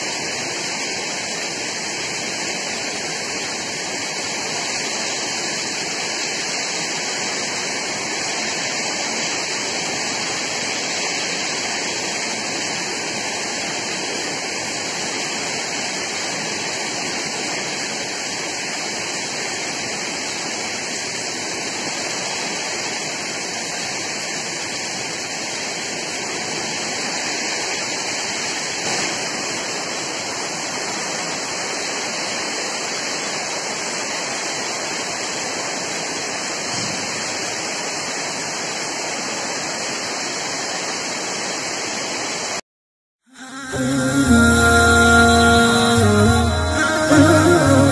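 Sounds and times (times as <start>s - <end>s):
heavy rain pouring: 0.0s - 42.6s, 43.6s - 47.9s.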